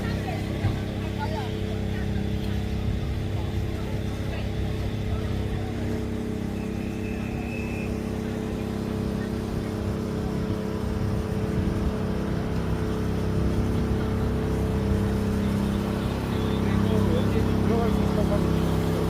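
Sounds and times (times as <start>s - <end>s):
traffic engine hum: 0.0s - 19.0s.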